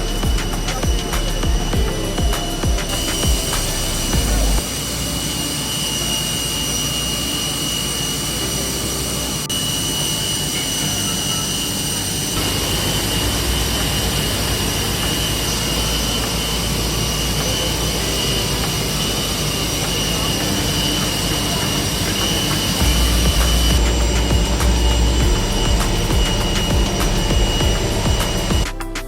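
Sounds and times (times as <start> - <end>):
jet turbine running: 0.0 - 28.9.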